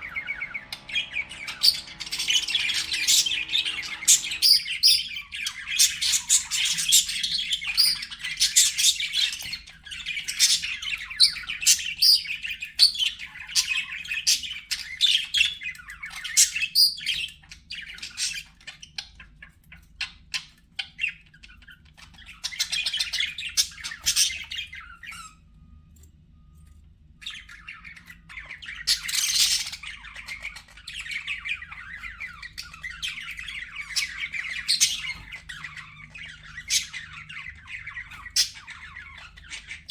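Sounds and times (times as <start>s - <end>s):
budgerigars chattering and chirping: 0.0s - 25.3s, 27.2s - 39.9s.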